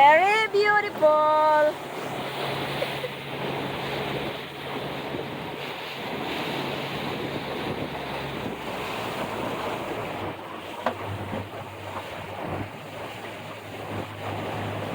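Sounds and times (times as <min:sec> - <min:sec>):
waves washing: 0:00.0 - 0:14.9
wind buffeting microphone: 0:00.0 - 0:14.9.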